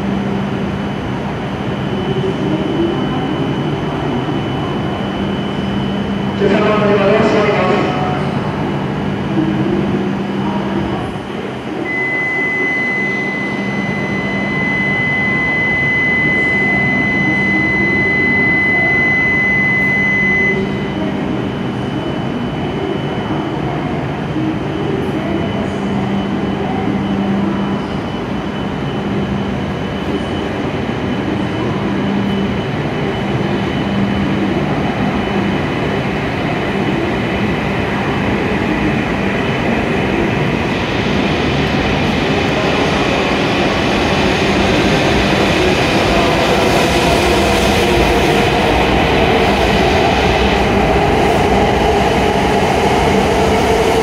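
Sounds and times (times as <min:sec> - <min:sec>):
train pulling out: 0:00.0 - 0:54.0
trains humming: 0:00.0 - 0:54.0.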